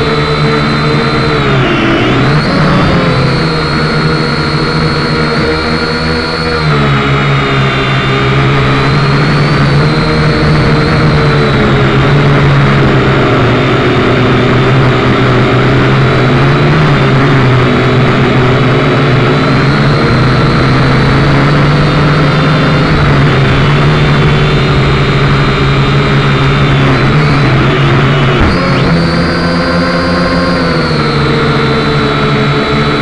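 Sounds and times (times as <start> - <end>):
model aircraft motor whining: 0.0 - 33.0.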